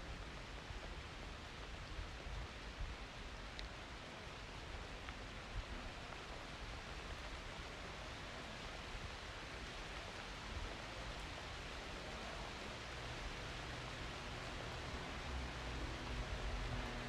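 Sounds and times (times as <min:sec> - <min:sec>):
rain falling on street: 0:00.0 - 0:17.0.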